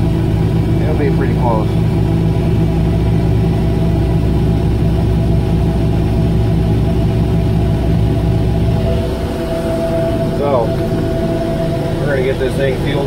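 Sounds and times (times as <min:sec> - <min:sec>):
combine engine running: 0:00.0 - 0:13.0.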